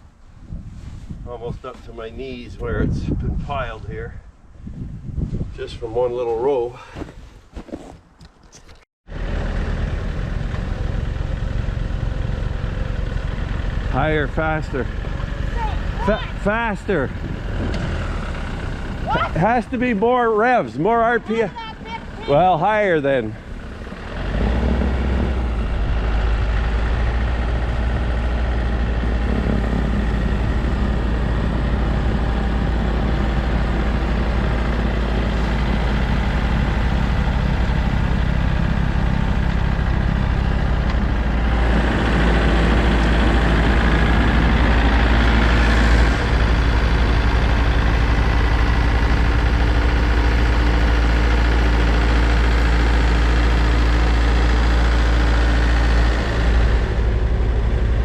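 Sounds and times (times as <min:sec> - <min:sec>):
tractor diesel engine running: 0:09.1 - 0:58.0.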